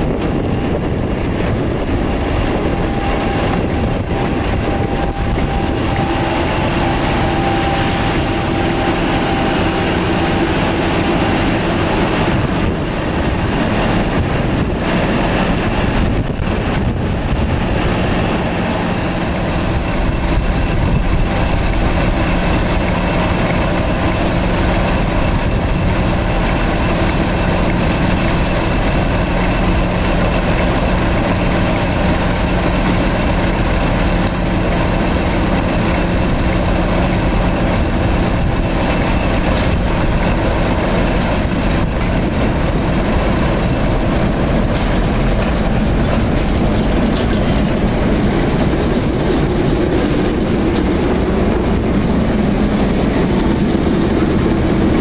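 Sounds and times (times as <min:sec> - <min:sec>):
diesel locomotives running: 0:00.0 - 0:55.0.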